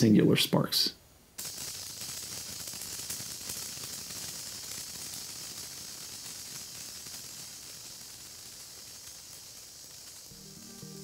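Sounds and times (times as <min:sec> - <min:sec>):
sparkler hissing: 0:01.3 - 0:11.0.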